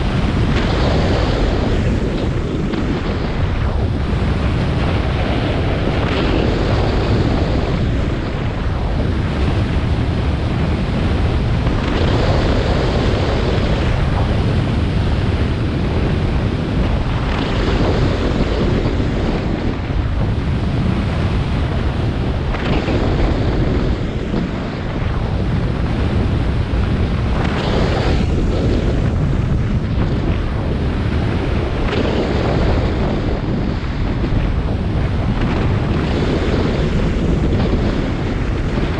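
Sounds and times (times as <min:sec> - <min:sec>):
snowboard scraping over snow: 0:00.0 - 0:38.9
wind rushing on microphone: 0:00.0 - 0:38.9.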